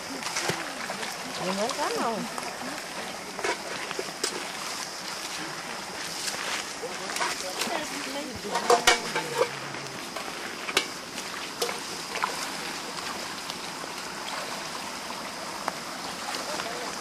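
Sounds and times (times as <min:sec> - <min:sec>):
feet sloshing through muddy water: 0:00.0 - 0:17.0
running water hiss: 0:00.0 - 0:17.0
sharp splashes: 0:00.0 - 0:17.0.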